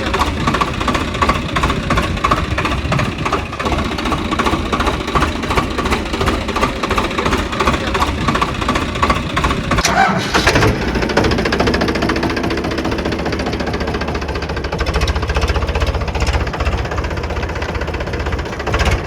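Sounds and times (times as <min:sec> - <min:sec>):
engine knocking: 0:00.0 - 0:19.0.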